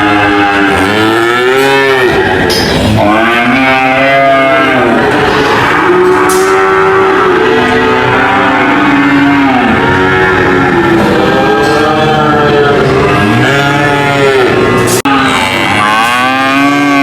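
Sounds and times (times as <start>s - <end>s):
cow mooing: 0.0s - 17.0s.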